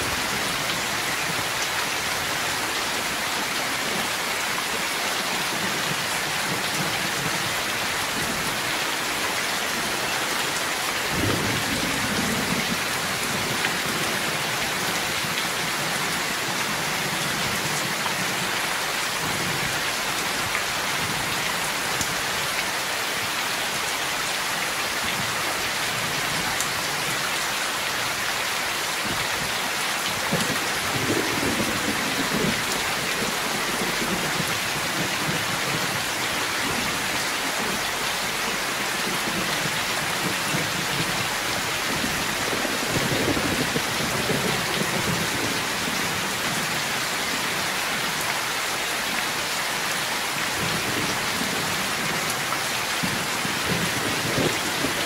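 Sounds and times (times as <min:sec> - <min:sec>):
heavy rain pouring off roof: 0:00.0 - 0:55.0.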